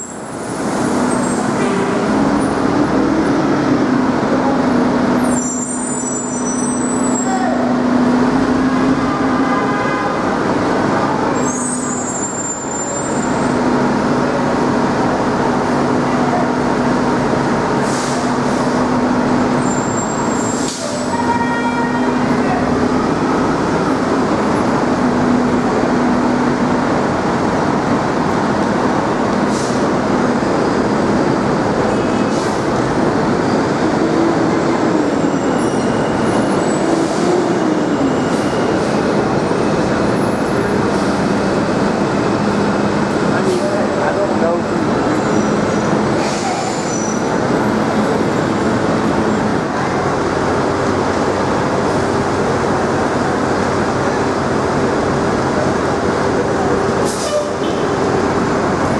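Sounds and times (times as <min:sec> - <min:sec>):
heavy vehicle engine hum: 0:00.0 - 0:58.9.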